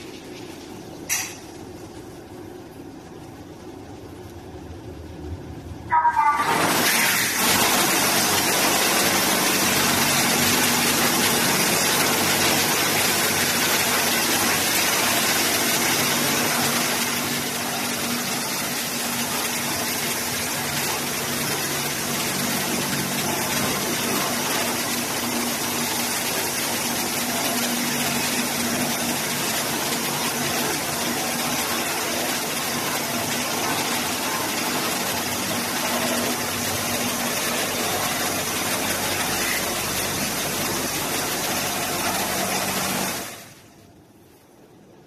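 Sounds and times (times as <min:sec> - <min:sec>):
pump humming: 0:00.0 - 0:44.0
high-pressure water jets spraying: 0:06.2 - 0:43.5.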